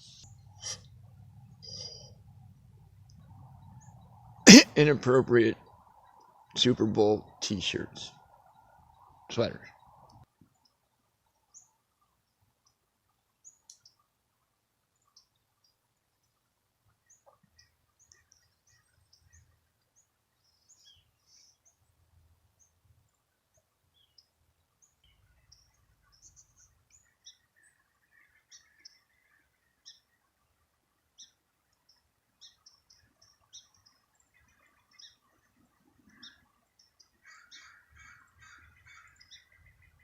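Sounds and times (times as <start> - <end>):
small birds chirping: 5.3 - 40.0.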